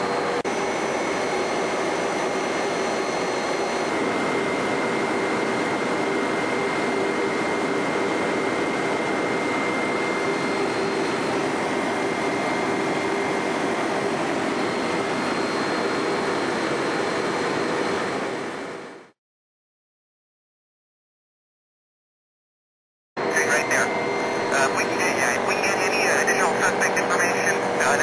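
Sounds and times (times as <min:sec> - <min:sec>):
helicopter cabin noise: 0:00.0 - 0:19.1, 0:23.2 - 0:28.0.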